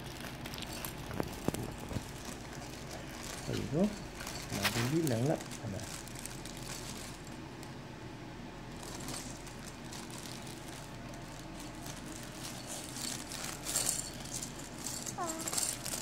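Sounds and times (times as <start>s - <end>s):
plastic bag crinkling: 0.0s - 7.8s, 8.7s - 16.0s
low steady hum: 0.0s - 16.0s.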